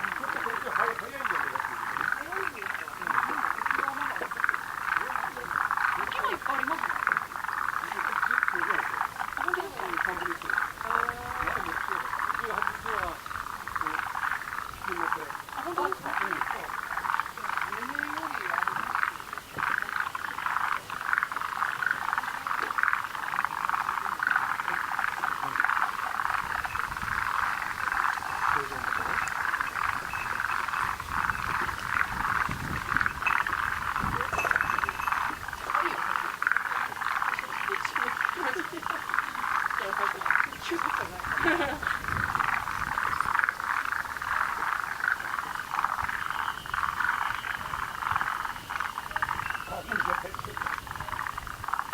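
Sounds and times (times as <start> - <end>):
frogs chorus calling: 0.0 - 51.9.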